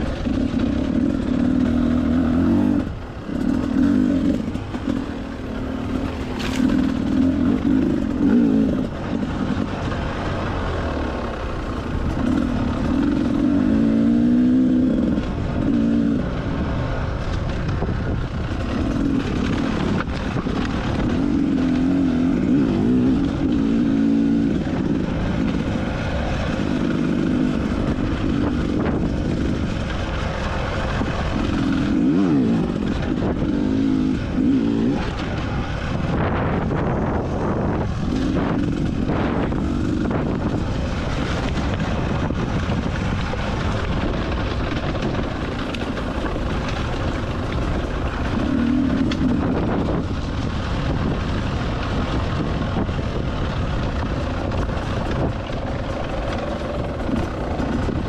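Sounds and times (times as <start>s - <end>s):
dirt bike engine revving: 0.0s - 16.8s, 18.2s - 58.0s
riding noise rumble: 0.0s - 58.0s.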